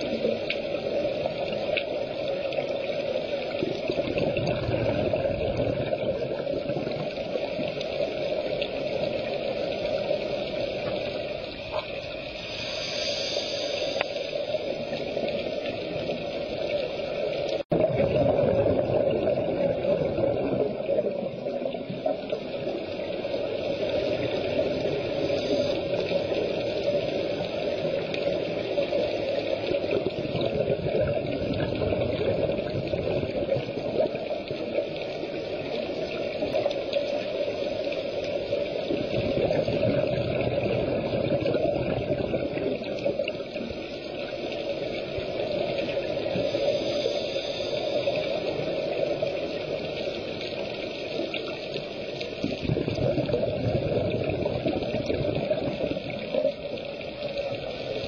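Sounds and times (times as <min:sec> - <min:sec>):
muffled underwater rush of water: 0:00.0 - 0:58.0.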